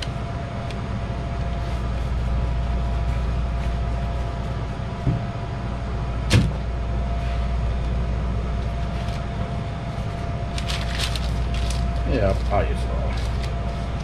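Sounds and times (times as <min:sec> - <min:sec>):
faint constant whine: 0:00.0 - 0:14.0
kitchen equipment humming: 0:00.0 - 0:14.0.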